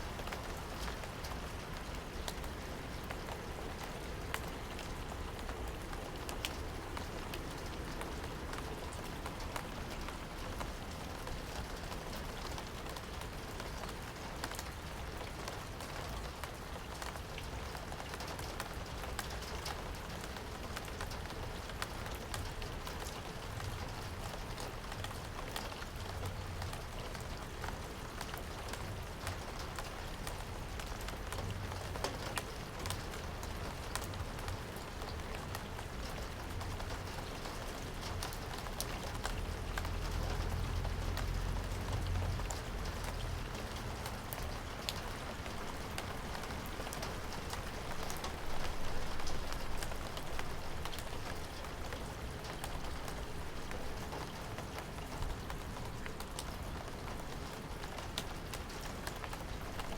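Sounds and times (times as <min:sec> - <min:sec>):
rain drops ticking on hard surface: 0:00.0 - 0:59.9.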